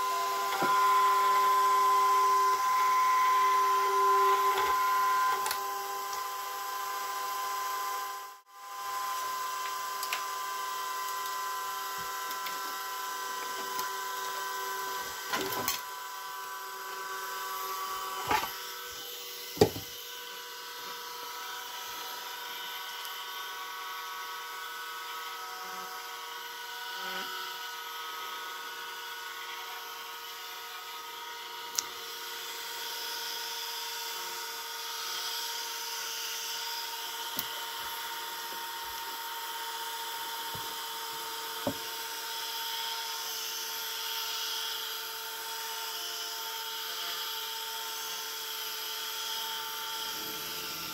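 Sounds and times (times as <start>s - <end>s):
gyro electric whine: 0.0s - 50.9s.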